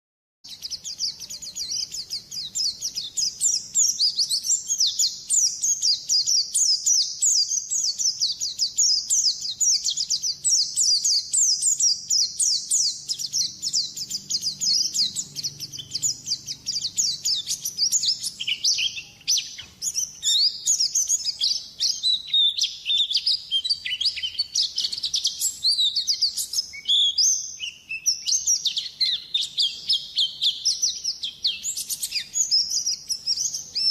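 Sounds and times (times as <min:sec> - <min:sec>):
bird twittering song: 0:00.5 - 0:33.9.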